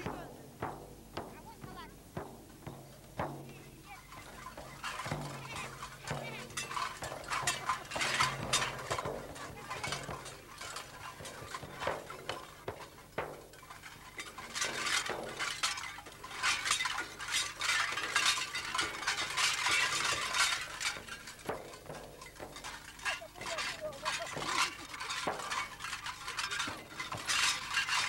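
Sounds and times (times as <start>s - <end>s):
metal pendants jangling: 3.7s - 28.0s.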